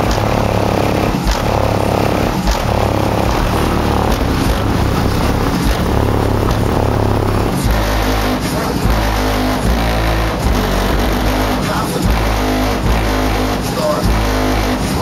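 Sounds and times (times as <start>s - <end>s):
subwoofers booming bass-heavy music: 0.0s - 15.0s.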